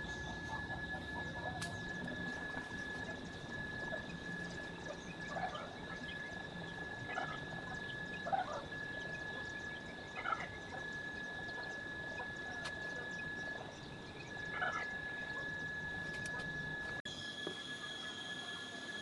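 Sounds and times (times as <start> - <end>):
steady high-pitched tone: 0.0 - 19.0.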